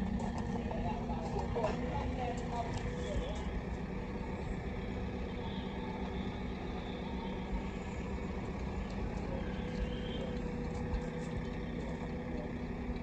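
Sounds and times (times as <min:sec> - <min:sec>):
low engine-like drone: 0:00.0 - 0:13.0.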